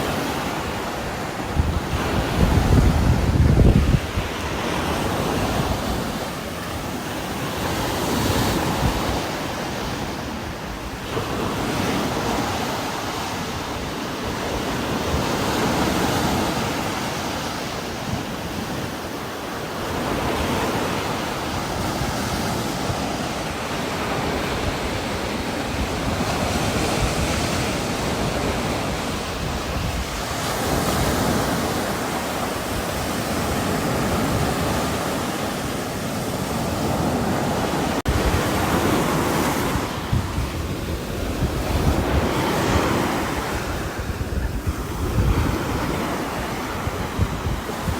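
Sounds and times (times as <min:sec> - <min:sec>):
wind gusts through trees: 0:00.0 - 0:47.9.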